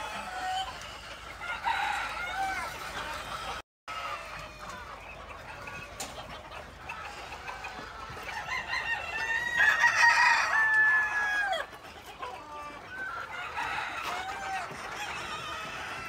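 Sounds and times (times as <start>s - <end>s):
roosters crowing: 0.0s - 5.0s, 7.1s - 16.0s
chickens clucking: 0.0s - 16.0s.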